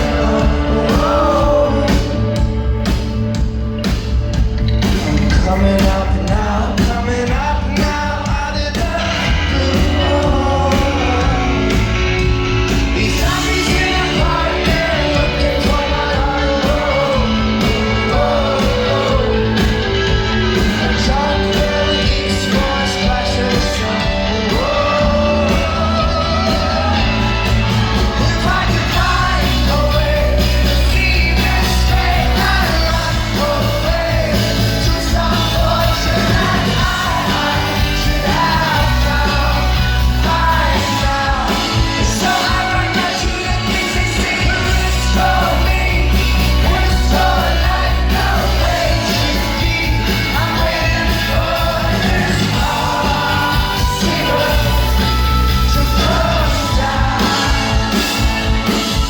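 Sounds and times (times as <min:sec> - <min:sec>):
person singing: 0:00.0 - 0:03.8, 0:04.8 - 0:59.0
rock band playing live: 0:00.0 - 0:59.0.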